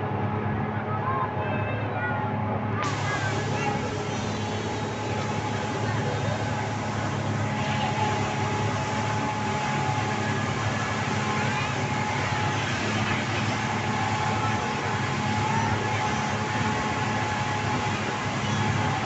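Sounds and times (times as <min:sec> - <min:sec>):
speedboat engines humming: 0:00.0 - 0:19.0
rushing wind and water: 0:02.2 - 0:19.0.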